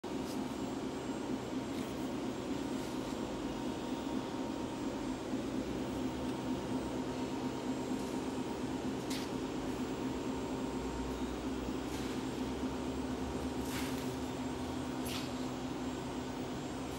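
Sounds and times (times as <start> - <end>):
mechanical hum: 0.0 - 16.9.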